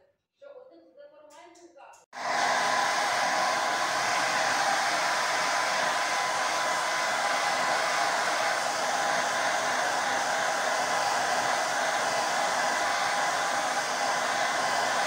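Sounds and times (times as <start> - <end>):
hair dryer running: 2.2 - 15.0.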